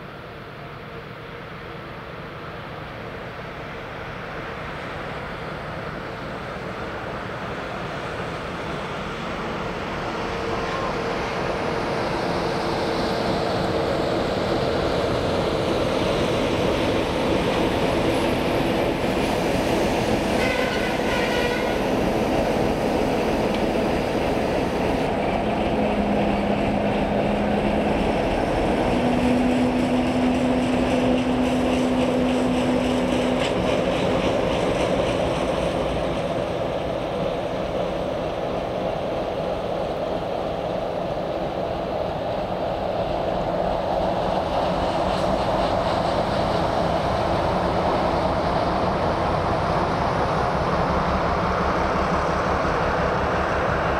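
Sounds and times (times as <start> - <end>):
diesel locomotive engine: 0.0 - 53.9.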